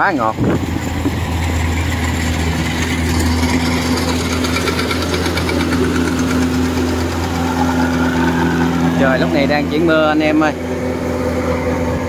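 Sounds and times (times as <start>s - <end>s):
combine harvester engine humming: 0.0s - 12.0s
fast mechanical rattle: 0.0s - 12.0s.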